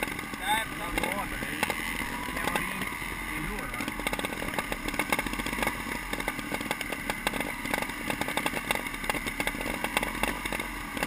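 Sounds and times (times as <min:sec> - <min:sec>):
motorcycle engines running: 0:00.0 - 0:11.0
sharp clicks and pops: 0:00.0 - 0:11.0.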